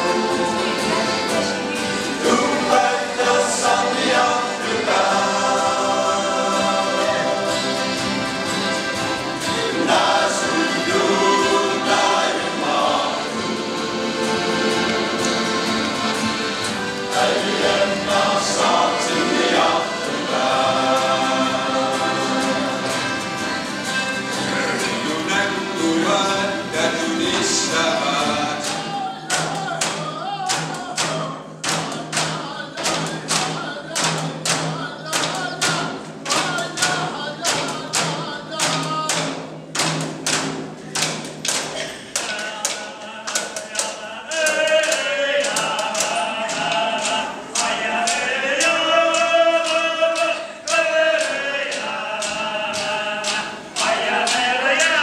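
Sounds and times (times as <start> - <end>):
group chant singing: 0.0 - 39.4, 40.8 - 55.0
frame drums beaten with sticks: 0.0 - 55.0.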